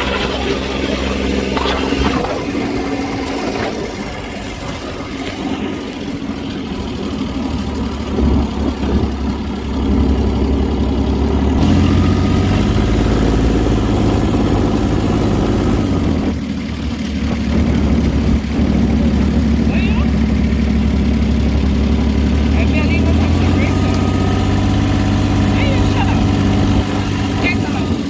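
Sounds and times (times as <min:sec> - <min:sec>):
dune buggy engine running: 0:00.0 - 0:28.0.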